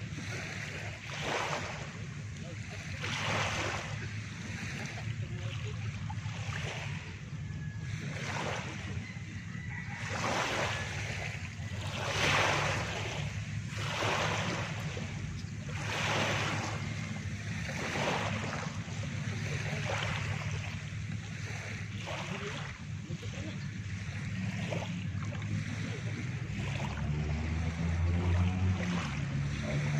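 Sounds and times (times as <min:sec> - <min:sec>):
small waves breaking on shore: 0:00.0 - 0:29.9.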